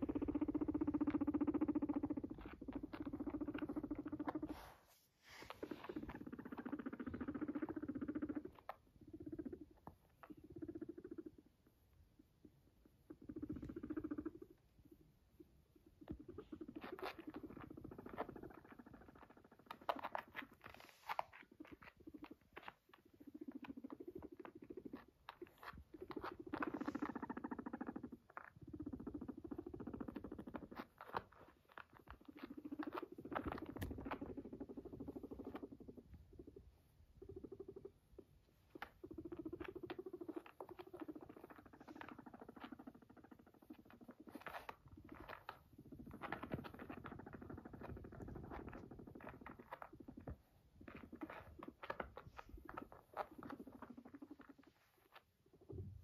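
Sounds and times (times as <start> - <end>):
guinea pig purring: 0.0 - 56.0.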